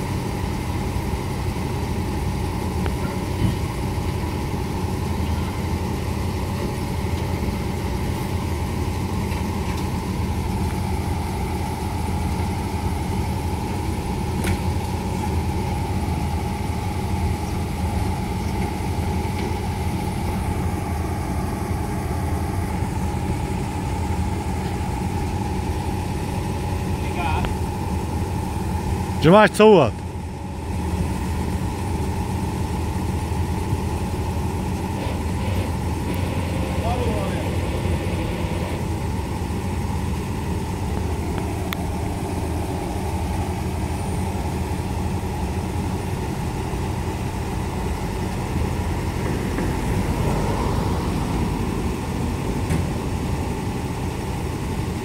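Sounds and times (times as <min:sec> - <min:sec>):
combine harvester engine idling: 0:00.0 - 0:55.0.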